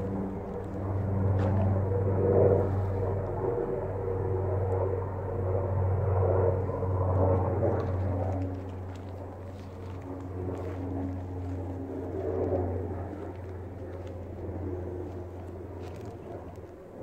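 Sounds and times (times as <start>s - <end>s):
low engine-like drone: 0.0s - 17.0s.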